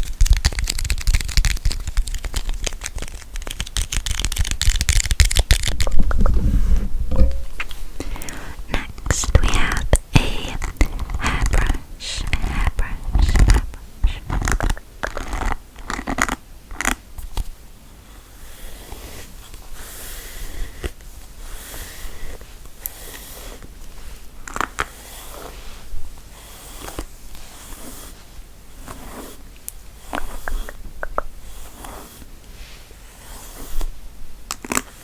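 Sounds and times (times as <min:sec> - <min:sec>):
soft hissy scratching: 0:01.6 - 0:16.3, 0:17.2 - 0:34.2.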